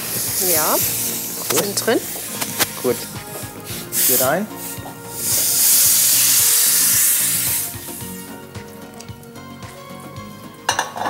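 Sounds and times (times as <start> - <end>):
food sizzling in hot pan: 0.0 - 11.0.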